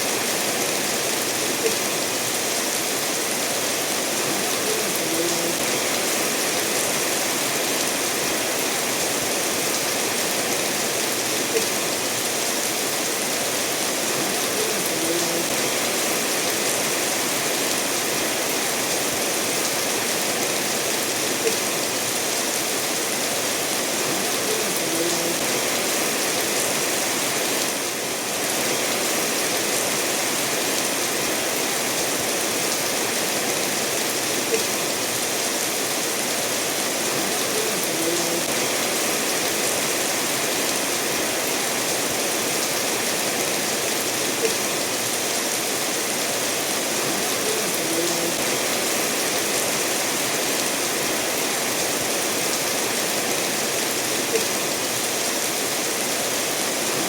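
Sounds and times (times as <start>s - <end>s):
steady rain falling: 0.0s - 57.0s
stream running over stones: 0.0s - 57.0s.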